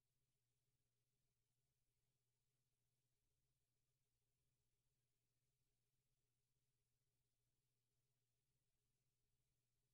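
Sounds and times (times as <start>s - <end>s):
faint low hum: 0.0s - 9.9s.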